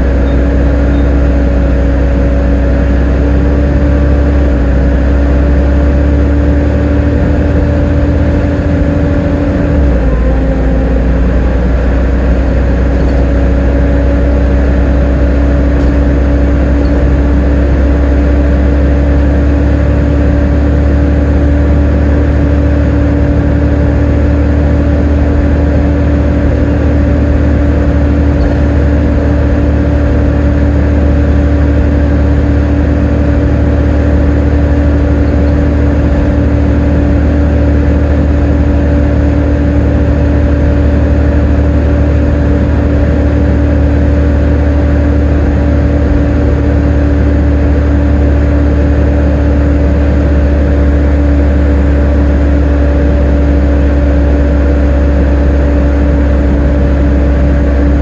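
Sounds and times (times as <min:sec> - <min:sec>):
bus engine whining: 0:00.0 - 0:58.0.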